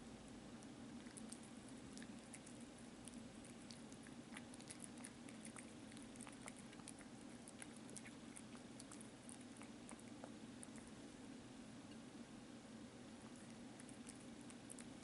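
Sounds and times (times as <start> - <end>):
steady low hum: 0.0 - 15.0
kitten chewing and licking: 0.5 - 12.2, 13.0 - 15.0.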